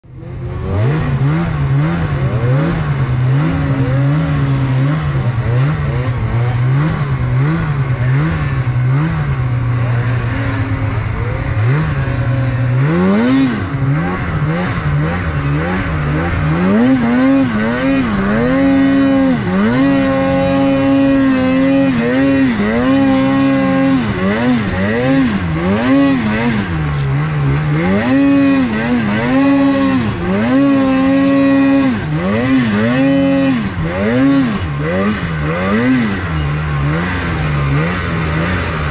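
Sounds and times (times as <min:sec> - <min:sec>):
snowmobile engine revving: 0:00.1 - 0:38.9.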